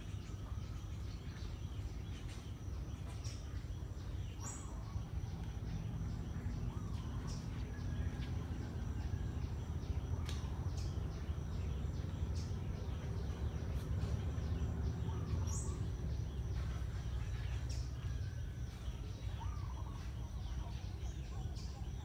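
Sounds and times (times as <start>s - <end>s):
bird chirps: 0.0s - 22.0s
low outdoor rumble: 0.0s - 22.0s.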